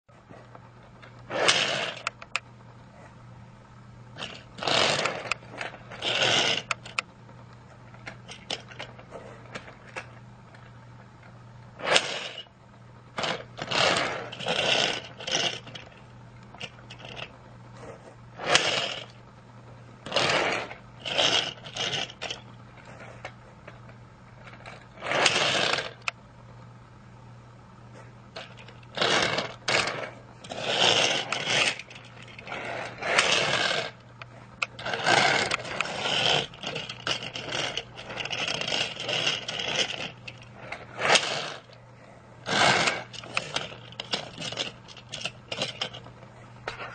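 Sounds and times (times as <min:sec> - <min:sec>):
steady low hum: 0:00.1 - 0:46.9
toy train rattling and scraping: 0:00.3 - 0:02.4, 0:04.2 - 0:07.1, 0:07.9 - 0:10.7, 0:11.8 - 0:12.5, 0:13.2 - 0:19.2, 0:20.0 - 0:26.2, 0:28.3 - 0:41.8, 0:42.4 - 0:46.9.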